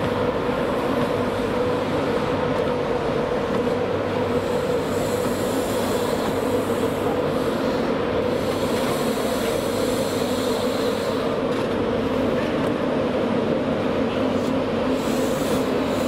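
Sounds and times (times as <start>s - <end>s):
continuous hum: 0.0s - 16.0s.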